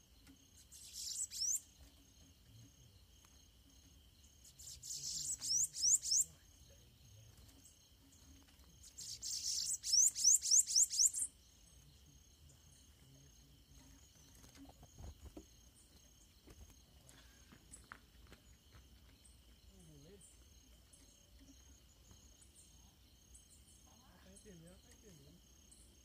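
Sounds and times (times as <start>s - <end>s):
high buzzy birdsong: 0.0s - 17.0s, 17.6s - 26.0s
insects trilling: 0.0s - 26.0s.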